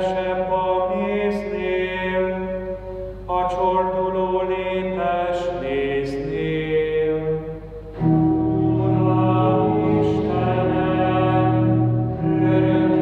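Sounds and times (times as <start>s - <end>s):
church organ chords: 0.0s - 13.0s.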